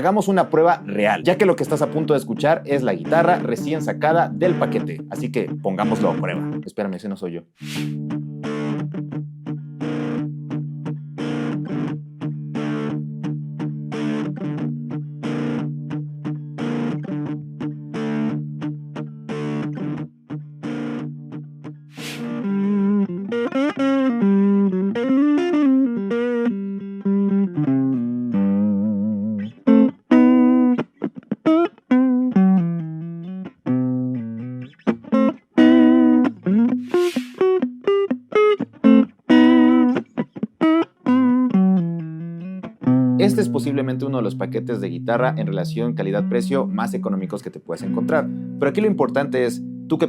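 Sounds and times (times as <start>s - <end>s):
electric guitar strummed chords: 0.0s - 6.6s, 7.9s - 50.0s
electric guitar lead lines: 0.0s - 6.7s, 7.7s - 50.0s.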